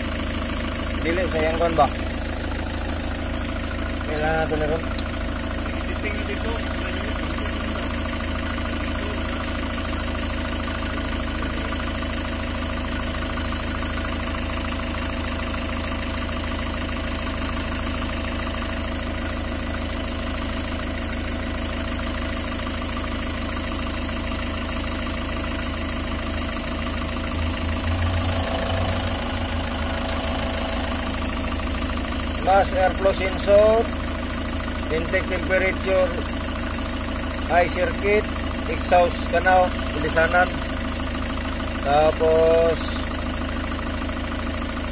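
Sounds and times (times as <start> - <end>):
van engine idling: 0.0 - 44.9.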